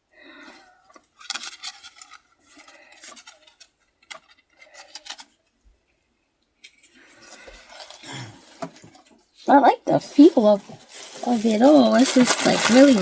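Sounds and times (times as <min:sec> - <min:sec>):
clothes and packaging rustling: 0:00.5 - 0:06.0, 0:06.6 - 0:13.0.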